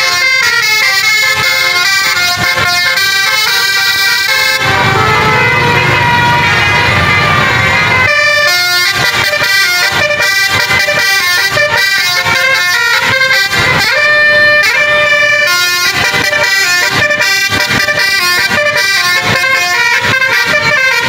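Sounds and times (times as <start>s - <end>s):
musical air horns playing a tune: 0.0s - 21.0s.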